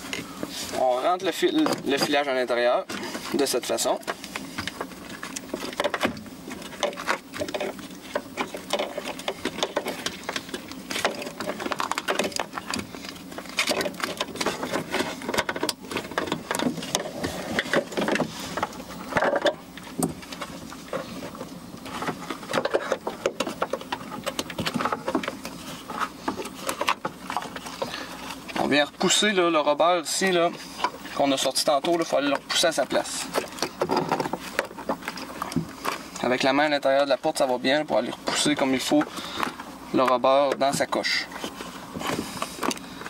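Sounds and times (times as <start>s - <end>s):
wiring and connectors rustling: 0.0s - 43.0s.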